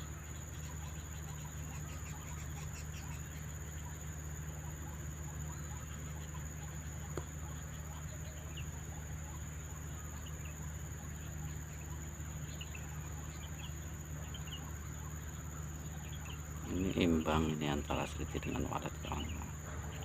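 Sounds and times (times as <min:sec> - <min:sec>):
insect drone: 0:00.0 - 0:20.0
low background hum: 0:00.0 - 0:20.0.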